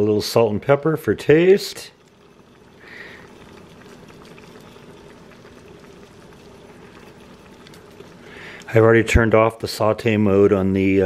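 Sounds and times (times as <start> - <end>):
broth simmering and sizzling: 0.0 - 11.0.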